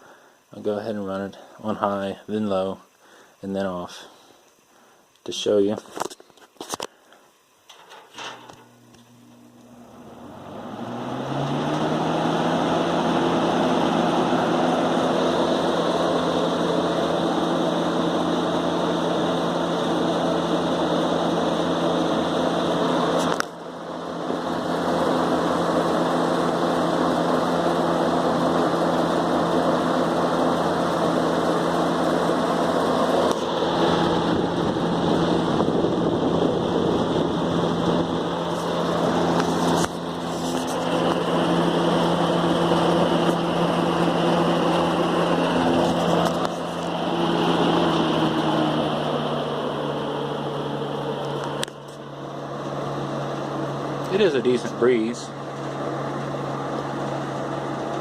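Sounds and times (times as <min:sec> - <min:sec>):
box fan running: 0:04.7 - 0:58.0.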